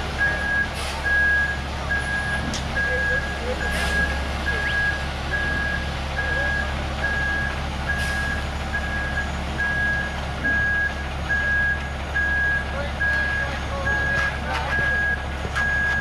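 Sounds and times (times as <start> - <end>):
truck backup alarm beeping: 0.0 - 16.0
truck engine humming: 0.0 - 16.0.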